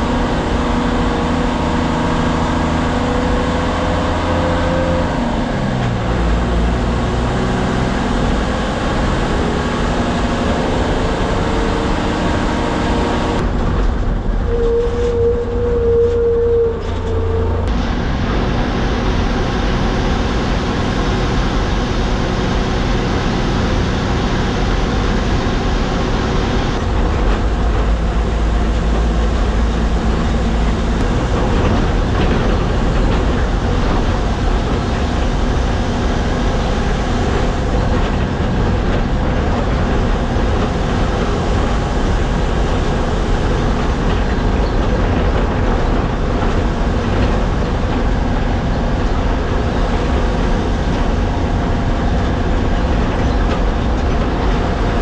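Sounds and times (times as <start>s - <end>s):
bus body rattling: 0.0s - 55.0s
diesel engine drone: 0.0s - 55.0s
road noise: 0.0s - 55.0s.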